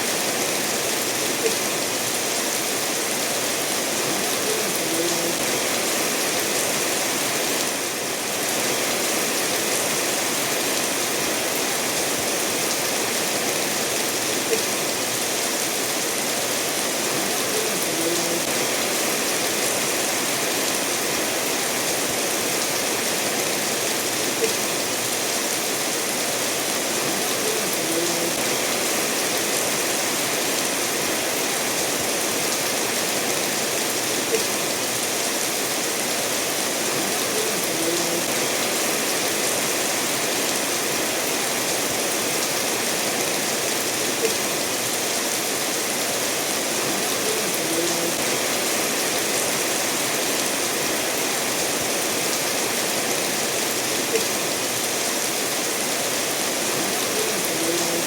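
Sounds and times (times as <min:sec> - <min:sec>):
rain falling: 0:00.0 - 0:58.0
stream running over stones: 0:00.0 - 0:58.0.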